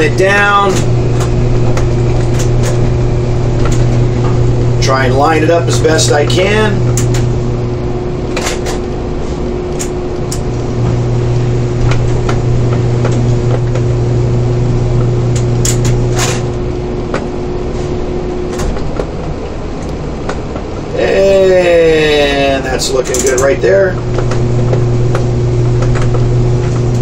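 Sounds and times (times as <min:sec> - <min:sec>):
crane hoist machinery hum: 0:00.0 - 0:27.0.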